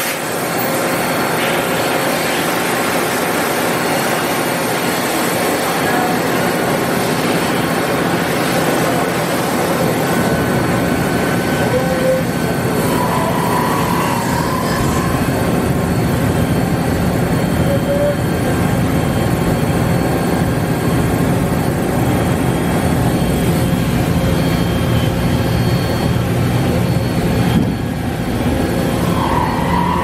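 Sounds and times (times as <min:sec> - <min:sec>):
cnc machine cutting with coolant spray: 0:00.0 - 0:30.0
faint steady whines: 0:00.3 - 0:30.0.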